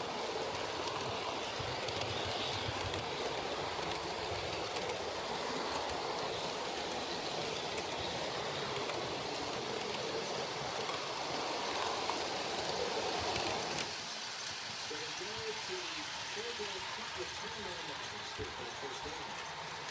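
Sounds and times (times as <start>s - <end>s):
model train running on track: 0.0s - 19.9s.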